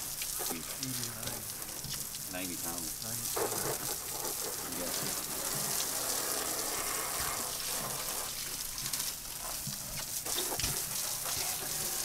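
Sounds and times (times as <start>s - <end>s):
hose spraying water: 0.0s - 12.0s.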